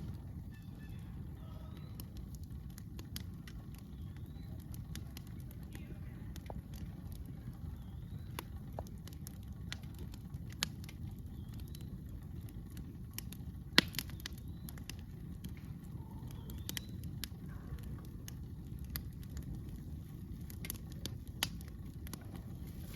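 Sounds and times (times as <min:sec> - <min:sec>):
campfire crackling and popping: 0:00.0 - 0:22.9
low rumble: 0:00.0 - 0:22.9.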